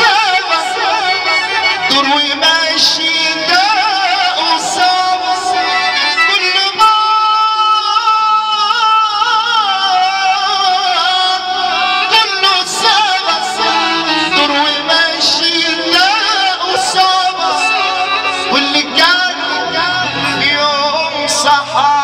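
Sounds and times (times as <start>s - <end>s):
amplified keyboard and band: 0.0s - 22.0s
man singing ornamented melody: 0.0s - 22.0s.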